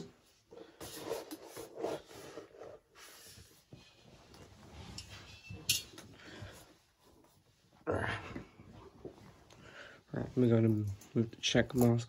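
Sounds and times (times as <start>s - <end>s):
rustling and handling noises: 0.0s - 12.0s.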